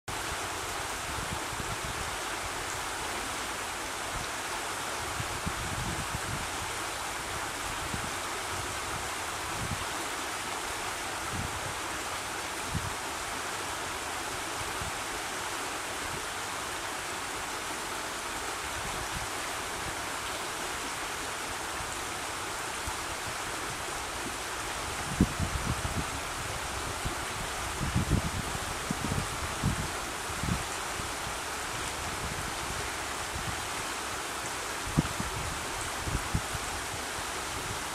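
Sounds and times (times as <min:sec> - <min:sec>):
river rapids rushing: 0:00.1 - 0:37.9.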